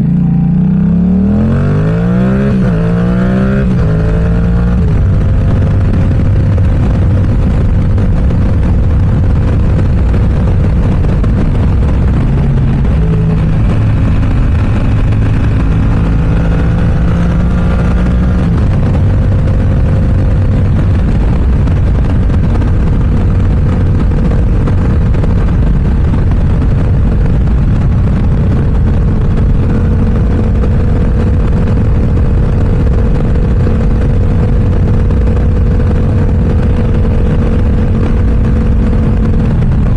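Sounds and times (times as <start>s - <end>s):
loud motorcycle engine: 0.0s - 39.9s.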